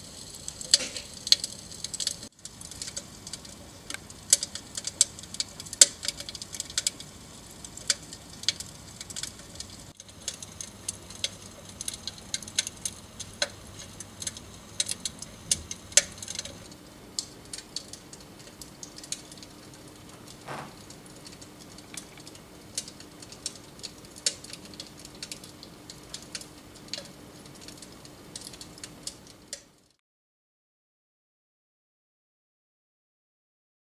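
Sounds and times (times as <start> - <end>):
simulated fire crackle: 0.0 - 30.0.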